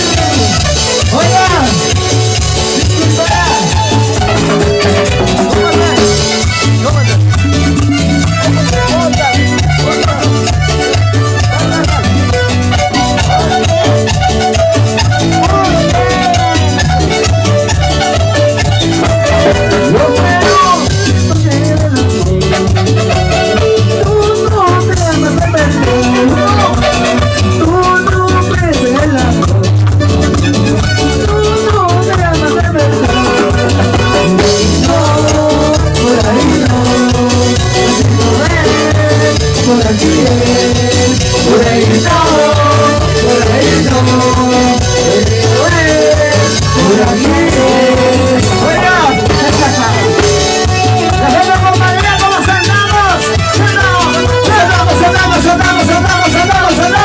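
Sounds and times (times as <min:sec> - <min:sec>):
latin dance music with keyboard: 0:00.0 - 0:57.0
repeating bass beat: 0:00.0 - 0:57.0.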